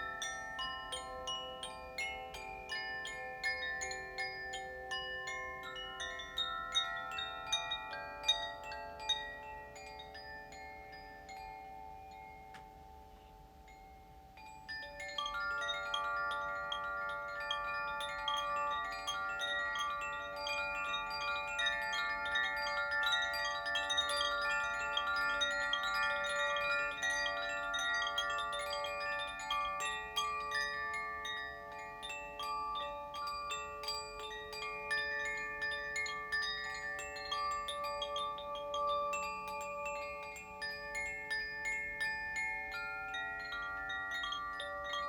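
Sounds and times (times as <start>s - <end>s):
wind chimes tinkling: 0.0s - 45.0s.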